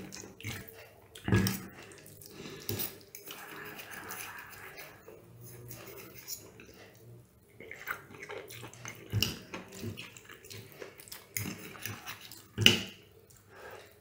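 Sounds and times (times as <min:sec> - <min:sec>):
spaghetti slurped and chewed: 0:00.0 - 0:14.0.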